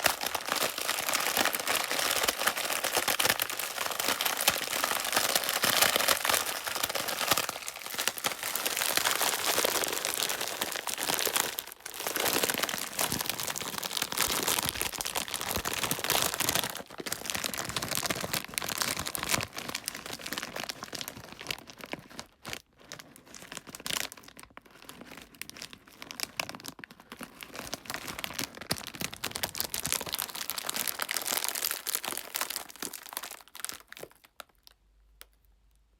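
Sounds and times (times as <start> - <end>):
plastic packaging crinkling: 0.0 - 34.8.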